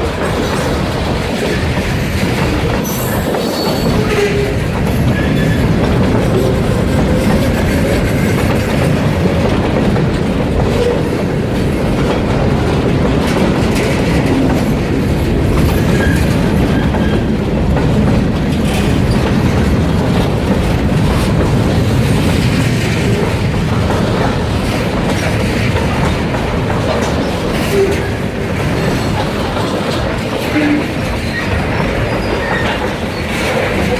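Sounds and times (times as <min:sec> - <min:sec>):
freight train cars rolling past: 0:00.0 - 0:33.9
wheels clacking over rail joints: 0:00.0 - 0:33.9.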